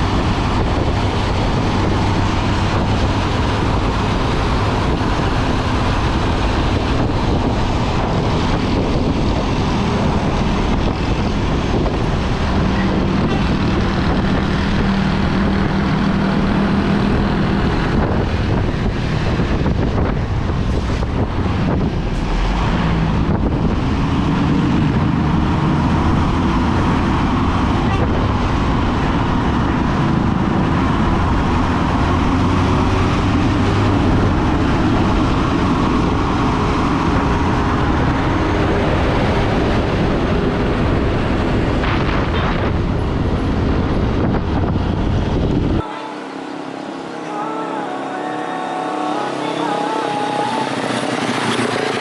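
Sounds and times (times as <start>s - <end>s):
bus engine running: 0.0s - 52.0s
road and wind noise: 0.0s - 52.0s.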